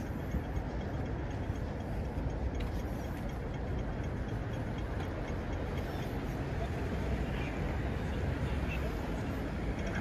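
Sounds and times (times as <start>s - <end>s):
low city background rumble: 0.0s - 10.0s.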